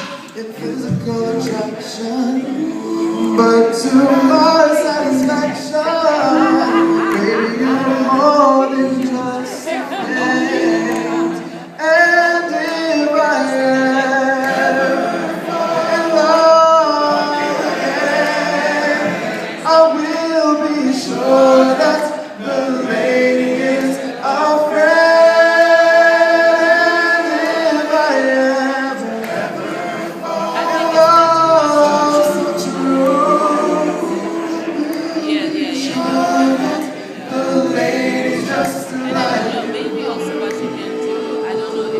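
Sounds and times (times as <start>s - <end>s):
a cappella group singing: 0.0s - 41.9s.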